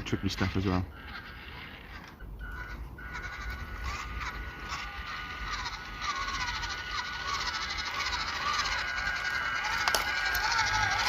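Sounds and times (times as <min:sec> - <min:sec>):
toy truck electric motor whining: 0:00.0 - 0:11.0.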